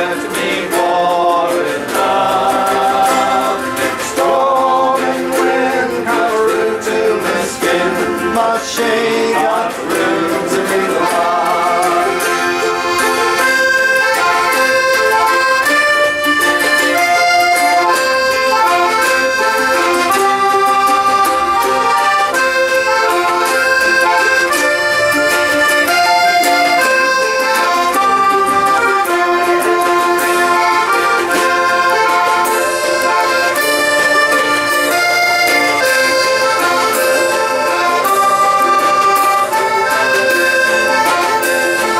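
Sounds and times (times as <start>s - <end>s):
accordion melody: 0.0s - 41.9s
folk band playing: 0.0s - 41.9s.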